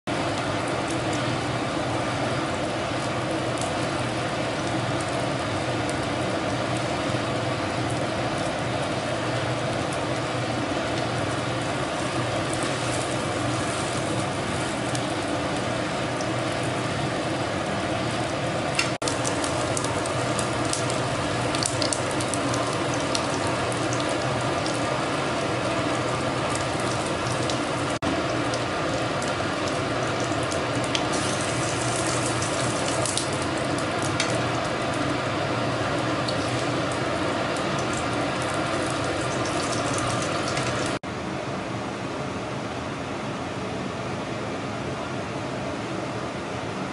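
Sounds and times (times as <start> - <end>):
steady mechanical hum: 0.0 - 46.9
dumplings sizzling in oil: 0.1 - 41.0
oil crackling and popping: 0.1 - 41.0.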